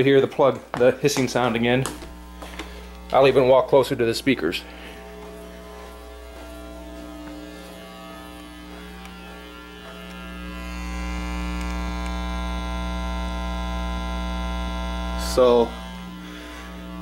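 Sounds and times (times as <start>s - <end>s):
speaker electrical buzz and hiss: 0.0s - 17.0s.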